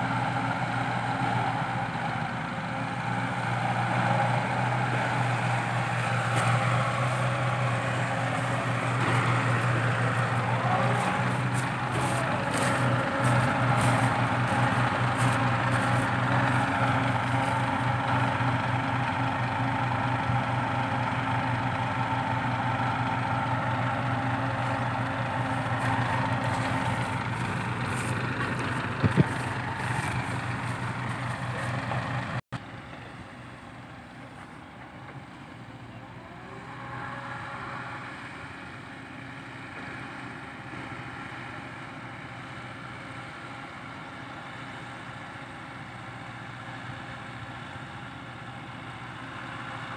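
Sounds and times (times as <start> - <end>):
dump truck engine running: 0.0 - 49.9
excavator diesel engine: 0.0 - 49.9.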